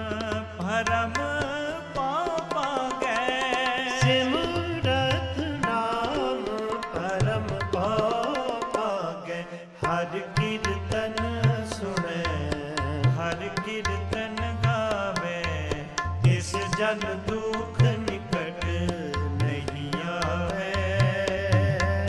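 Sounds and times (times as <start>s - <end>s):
harmonium melody: 0.0s - 22.0s
tabla drumming: 0.0s - 22.0s.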